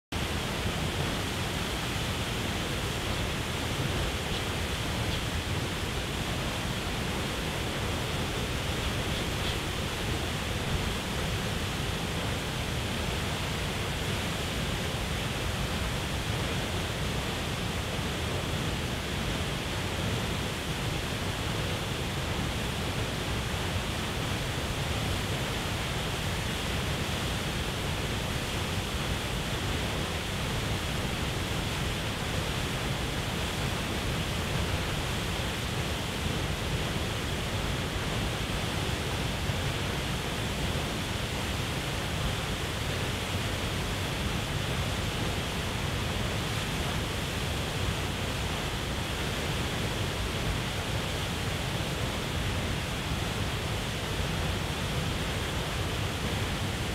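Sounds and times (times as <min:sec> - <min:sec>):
waterfall rushing: 0:00.2 - 0:56.9.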